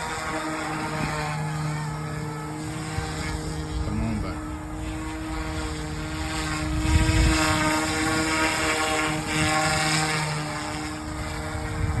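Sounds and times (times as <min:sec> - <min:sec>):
rc helicopter rotor whine: 0:00.0 - 0:12.0.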